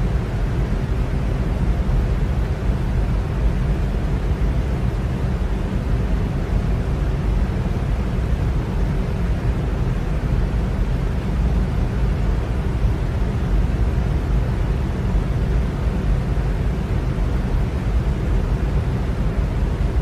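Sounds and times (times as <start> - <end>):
electric fan rushing air: 0.0 - 20.0.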